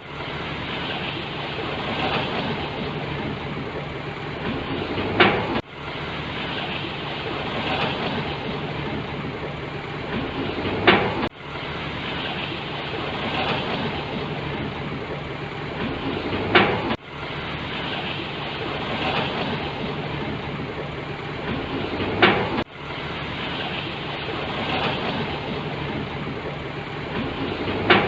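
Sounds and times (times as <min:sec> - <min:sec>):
heavy machinery engine hum: 0:00.0 - 0:28.0.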